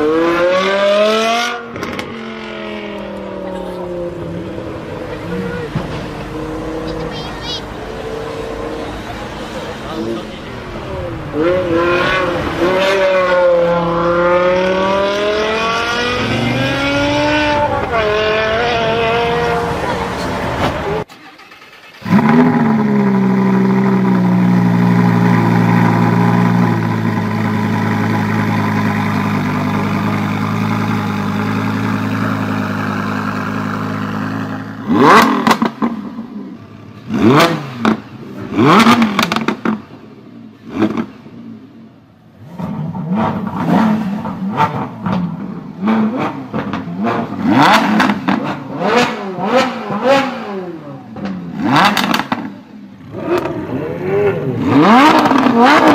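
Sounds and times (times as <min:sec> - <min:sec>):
sports car engine revving: 0:00.0 - 0:21.1, 0:21.9 - 0:55.9.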